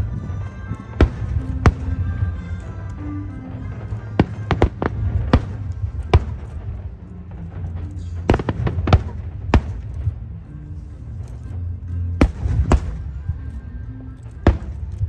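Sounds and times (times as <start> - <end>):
fireworks bangs: 0.0 - 15.0
steady low rumble: 0.0 - 15.0.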